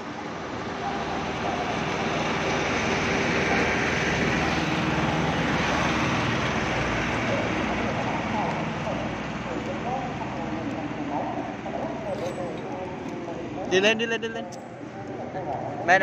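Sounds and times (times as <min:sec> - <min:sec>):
passing vehicle: 0:00.0 - 0:16.0.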